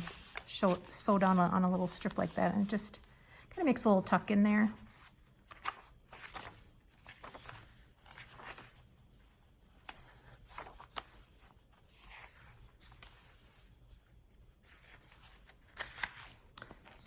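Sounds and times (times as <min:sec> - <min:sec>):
paper pages turning: 0:00.0 - 0:02.9, 0:03.6 - 0:17.0.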